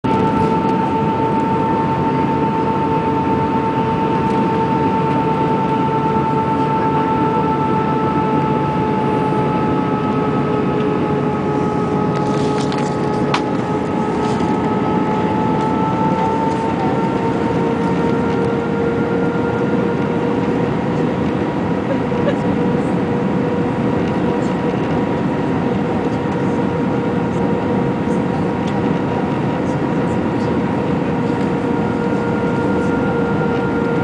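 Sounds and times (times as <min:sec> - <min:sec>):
airliner cabin engine rush: 0:00.0 - 0:34.0
constant whining tone: 0:00.0 - 0:34.0.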